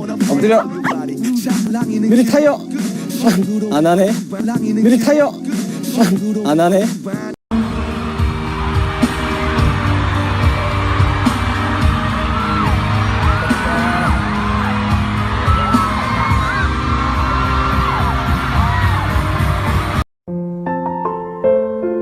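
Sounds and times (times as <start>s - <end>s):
pop music with heavy beat: 0.0s - 20.0s.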